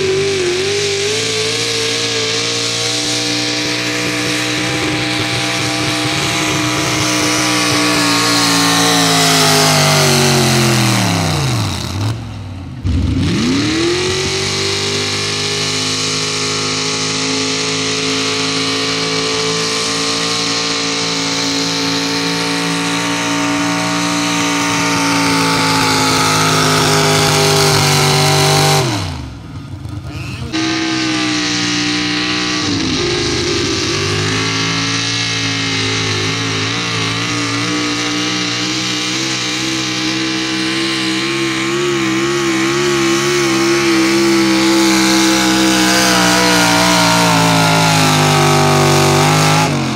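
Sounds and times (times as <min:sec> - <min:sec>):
truck engine revving under load: 0:00.0 - 0:49.9.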